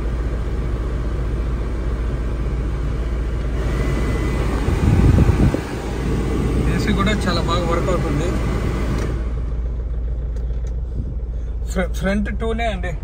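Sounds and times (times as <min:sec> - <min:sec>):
car blower fan rushing: 0:00.0 - 0:11.9
car engine idling: 0:00.0 - 0:13.0
low buffeting rumble: 0:00.0 - 0:13.0.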